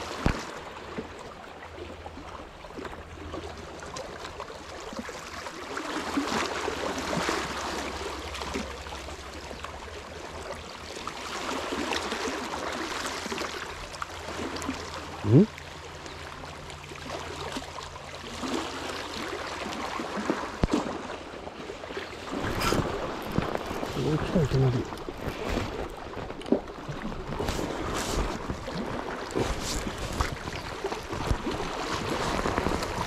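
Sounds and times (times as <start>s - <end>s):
small waves lapping at shore: 0.0s - 33.0s.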